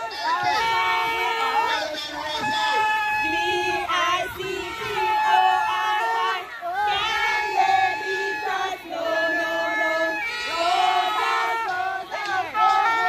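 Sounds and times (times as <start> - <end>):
crowd shouting and chanting: 0.0 - 13.0.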